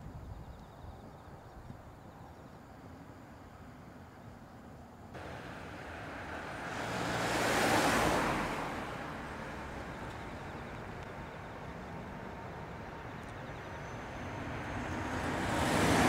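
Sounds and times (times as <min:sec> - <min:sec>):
distant jet engine rumble: 0:00.1 - 0:16.0.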